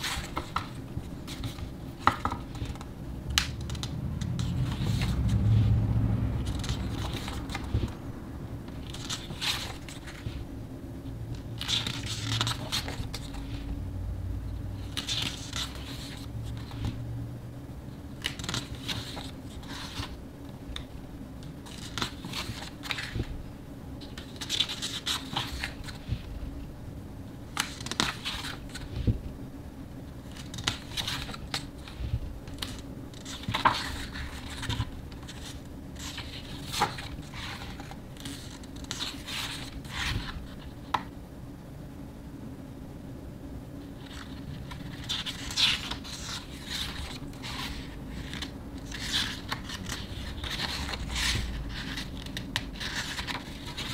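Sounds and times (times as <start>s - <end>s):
book pages turning: 0.0s - 5.8s, 6.4s - 8.0s, 8.6s - 10.5s, 11.3s - 13.8s, 14.8s - 17.0s, 18.1s - 23.3s, 24.0s - 26.3s, 27.5s - 29.2s, 30.2s - 41.1s, 43.9s - 53.9s
low steady hum: 0.0s - 53.9s.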